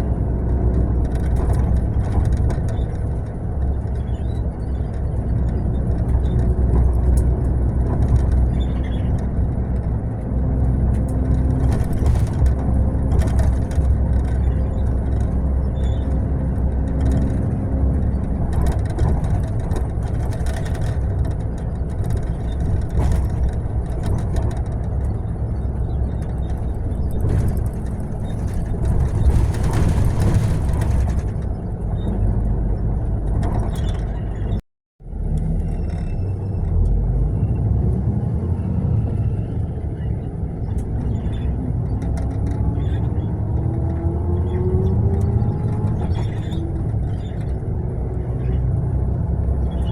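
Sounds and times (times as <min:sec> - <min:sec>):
rattles and clicks: 0:00.0 - 0:34.6, 0:39.4 - 0:48.6
coach engine and road rumble: 0:00.0 - 0:49.9.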